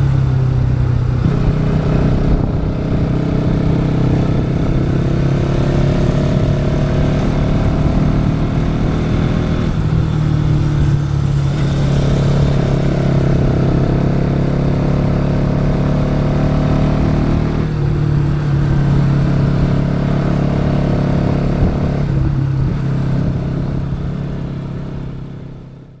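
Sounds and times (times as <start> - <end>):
motorcycle engine under throttle: 0.0 - 26.0.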